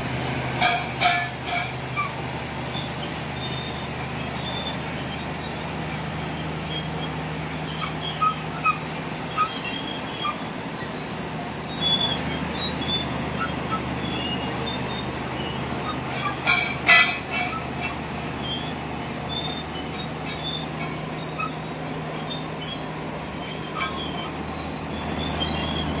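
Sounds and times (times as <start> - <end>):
bulldozer engine hum: 0.0 - 26.0
metallic squeaks and squeals: 0.3 - 26.0.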